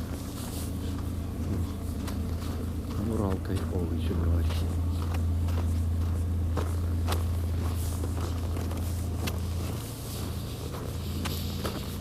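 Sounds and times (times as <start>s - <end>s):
footsteps: 0.0s - 12.0s
vehicle engine rumble: 0.0s - 12.0s.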